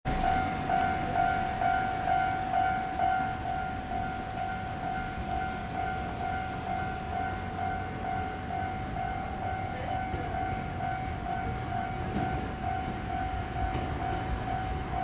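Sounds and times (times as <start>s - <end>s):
electric train rumble: 0.1s - 15.0s.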